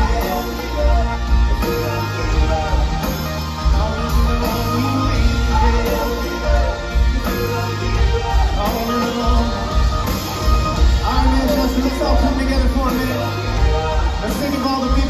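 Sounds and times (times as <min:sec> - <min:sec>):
bass guitar: 0:00.0 - 0:15.0
drums: 0:00.0 - 0:15.0
electric guitar: 0:00.0 - 0:15.0
lead vocal: 0:00.0 - 0:15.0.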